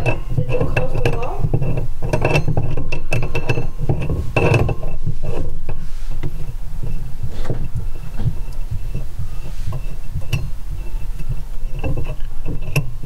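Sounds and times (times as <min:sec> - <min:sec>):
low thudding handling noise: 0:00.0 - 0:13.0.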